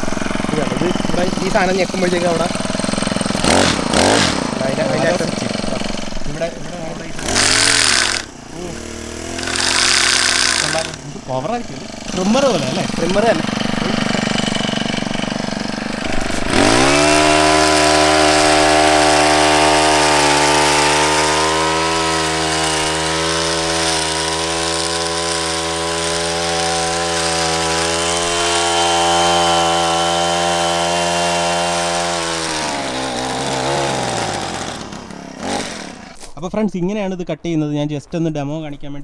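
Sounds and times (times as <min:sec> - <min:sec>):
petrol hedge trimmer revving: 0:00.0 - 0:36.4.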